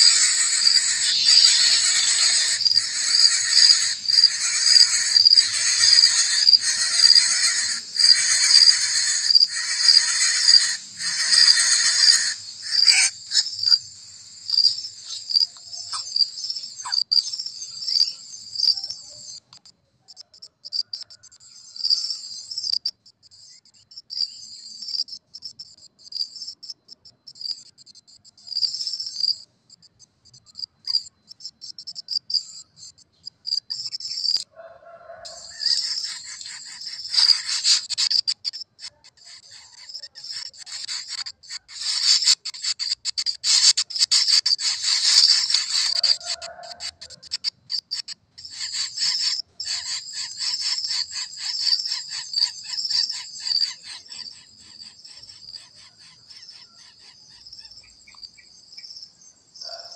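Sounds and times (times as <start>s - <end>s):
insects buzzing rhythmically: 0.0s - 34.5s, 35.2s - 59.9s
insects chirping high-pitched: 0.0s - 59.9s.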